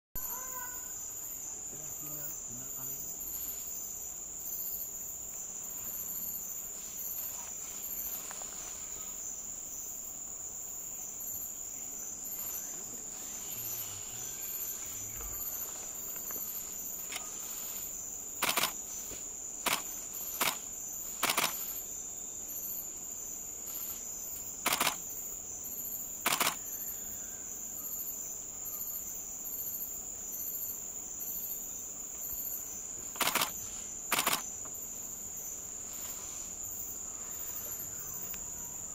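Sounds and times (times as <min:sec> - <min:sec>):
insects shrilling: 0:00.2 - 0:38.9.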